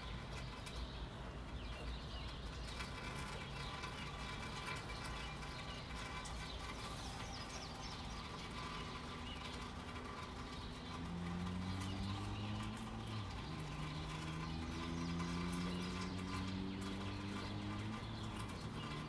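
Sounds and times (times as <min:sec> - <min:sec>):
birds chirping: 0:00.0 - 0:19.0
car engine hum: 0:02.2 - 0:19.0.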